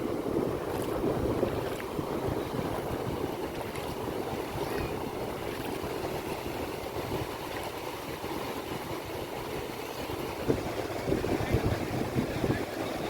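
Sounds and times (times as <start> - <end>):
sea waves washing onto beach: 0.0 - 13.0
wind on microphone: 0.0 - 13.0.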